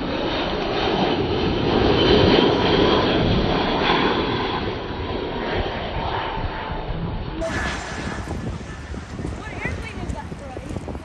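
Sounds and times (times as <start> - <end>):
jet engine rumble with whine: 0.0 - 11.0.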